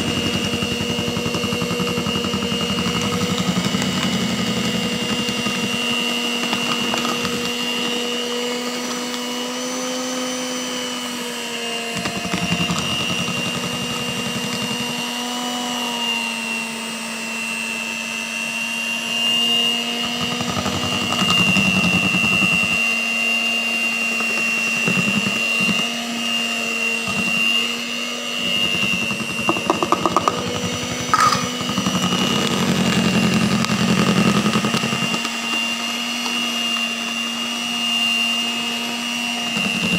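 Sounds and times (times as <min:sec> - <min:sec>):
beaters churning thick batter: 0:00.0 - 0:39.9
electric hand mixer whining: 0:00.0 - 0:39.9.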